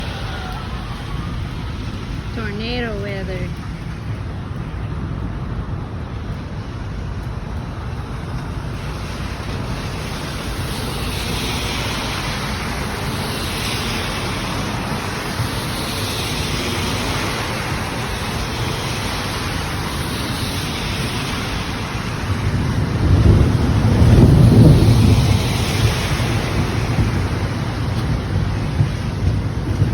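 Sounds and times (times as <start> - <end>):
low roll of thunder: 0.0 - 29.9
rain rushing: 0.0 - 29.9
wind buffeting microphone: 0.0 - 29.9.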